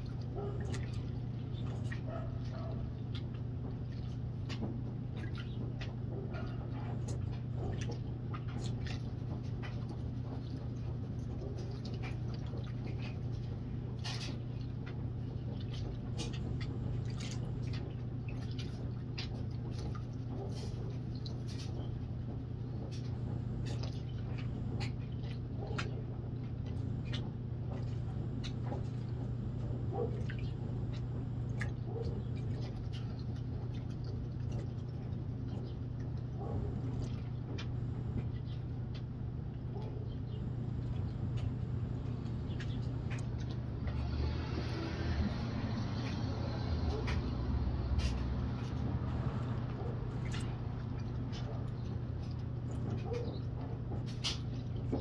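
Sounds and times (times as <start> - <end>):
muddy water sloshing in a pan: 0.0 - 55.0
steady low hum: 0.0 - 55.0.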